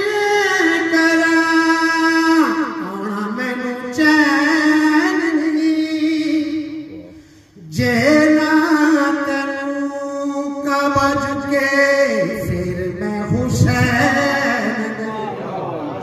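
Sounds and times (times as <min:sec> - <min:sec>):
man singing unaccompanied: 0:00.0 - 0:15.3.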